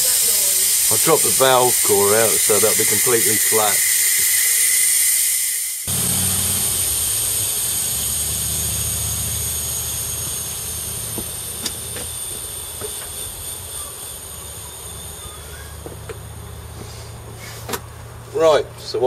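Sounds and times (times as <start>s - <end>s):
air hissing out of tyre: 0.0s - 17.9s.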